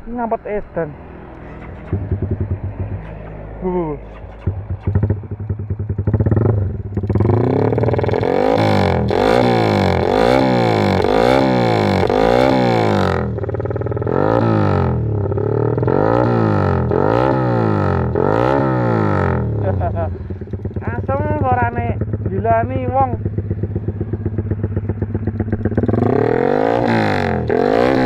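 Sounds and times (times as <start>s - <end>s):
motorcycle engine revving: 0.4s - 28.0s.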